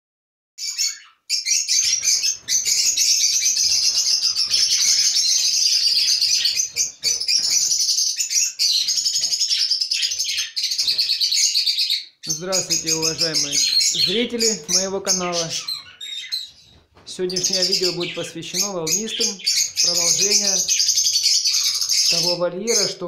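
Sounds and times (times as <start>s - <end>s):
budgerigars chattering and warbling: 0.6s - 23.0s.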